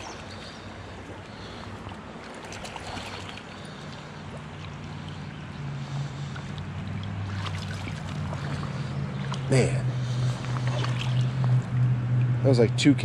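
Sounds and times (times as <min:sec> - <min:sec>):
fish splashing at surface: 0:00.0 - 0:05.3, 0:06.0 - 0:11.9
river water rushing: 0:00.0 - 0:12.4
low steady hum: 0:00.0 - 0:13.0.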